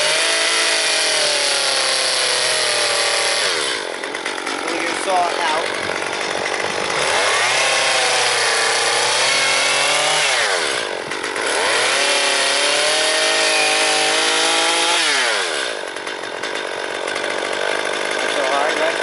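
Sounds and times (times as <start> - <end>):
chainsaw cutting log: 0.0 - 19.0.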